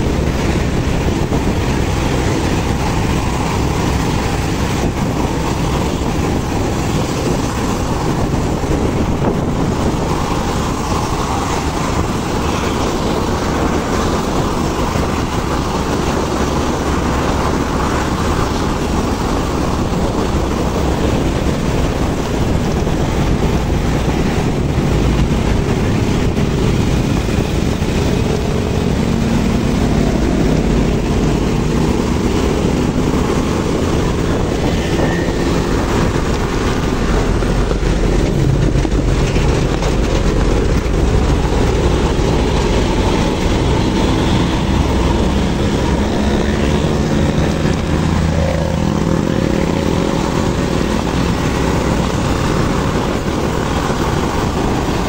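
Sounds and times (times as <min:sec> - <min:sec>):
engines running hard: 0:00.0 - 0:55.0
wind noise: 0:00.0 - 0:55.0.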